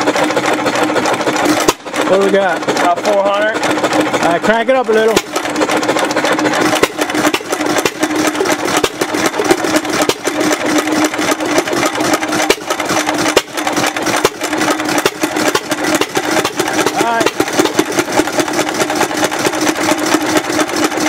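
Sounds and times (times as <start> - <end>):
hit-and-miss engine running fast: 0.0 - 21.0.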